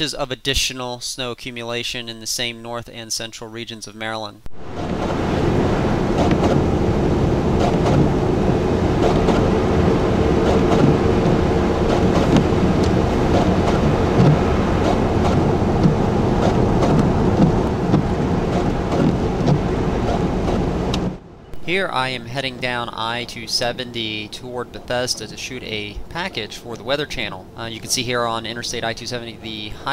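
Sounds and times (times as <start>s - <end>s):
car engine hum: 4.5s - 29.9s
tyre and road noise: 4.5s - 29.9s.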